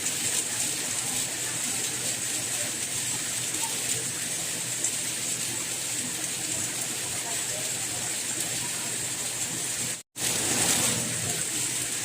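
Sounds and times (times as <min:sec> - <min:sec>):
soft rain hiss: 0:00.0 - 0:12.0.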